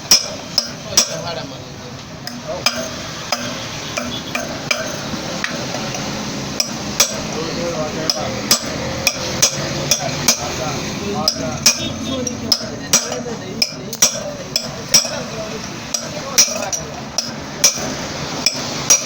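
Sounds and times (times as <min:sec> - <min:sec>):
hammer tapping on metal: 0:00.0 - 0:19.0.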